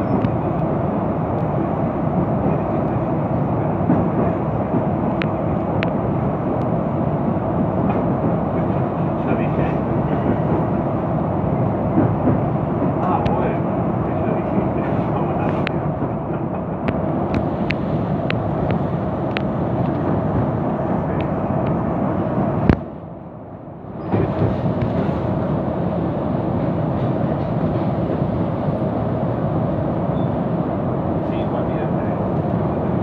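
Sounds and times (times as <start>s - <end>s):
train wheels rumbling on rails: 0.0s - 23.2s, 23.8s - 33.0s.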